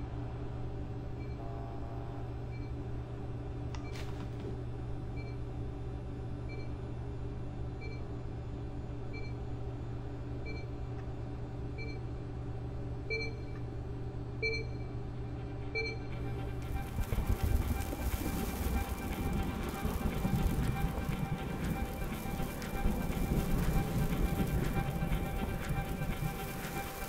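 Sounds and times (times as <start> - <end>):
constant low hum: 0.0 - 27.0.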